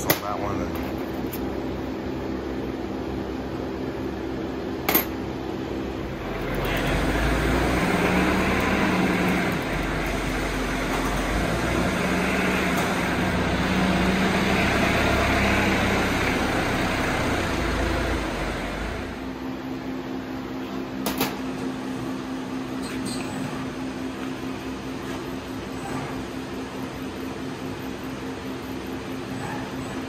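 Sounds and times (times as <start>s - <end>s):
forklift engine drone: 0.5s - 30.0s.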